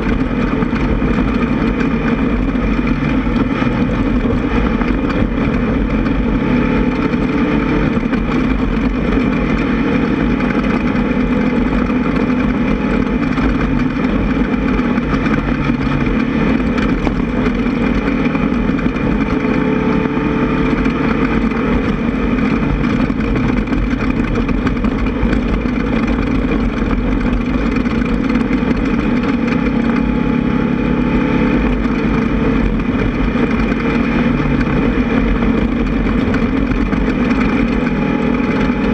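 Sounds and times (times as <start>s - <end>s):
buggy engine running hard: 0.0s - 38.9s
low rumble and rattle: 0.0s - 38.9s.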